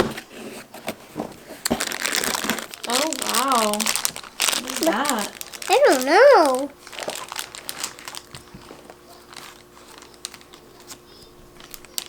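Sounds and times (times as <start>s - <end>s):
packaging crinkling: 1.4s - 12.0s.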